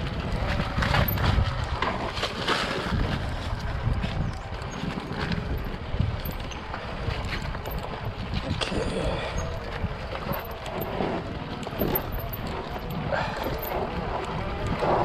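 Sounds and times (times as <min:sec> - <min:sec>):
wind on microphone: 0:00.0 - 0:15.0
dirt bike engine rumble: 0:02.9 - 0:15.0.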